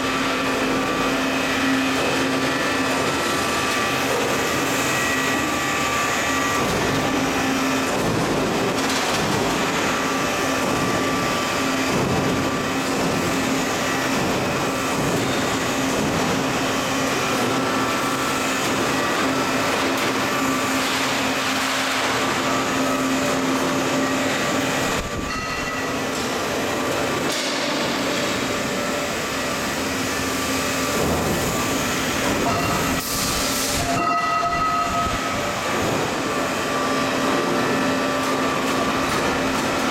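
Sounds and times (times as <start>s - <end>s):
extrusion machine drone: 0.0s - 39.9s.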